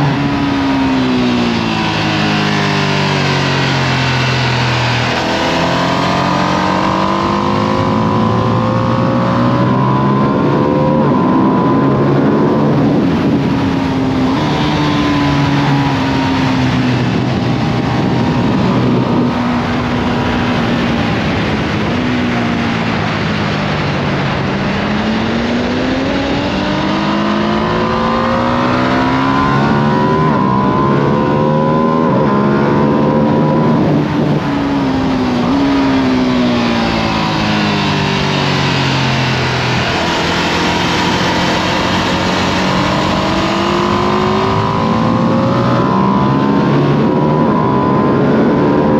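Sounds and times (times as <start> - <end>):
motorcycle engine revving: 0.0 - 48.9
wind rush: 0.0 - 48.9.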